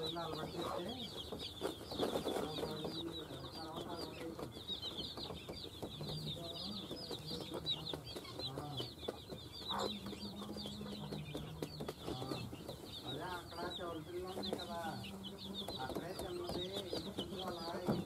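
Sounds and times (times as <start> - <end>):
chicks peeping: 0.0 - 18.0
hen clucking: 0.0 - 18.0.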